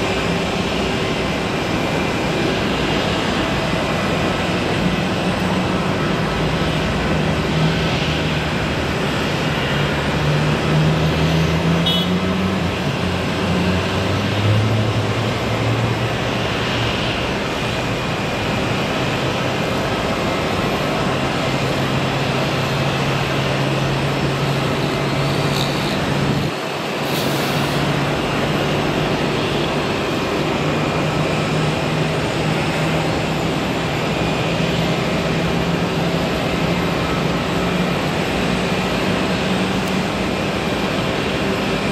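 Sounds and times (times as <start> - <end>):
jet airliner taxiing: 0.0 - 41.9
steady din like traffic: 0.0 - 41.9.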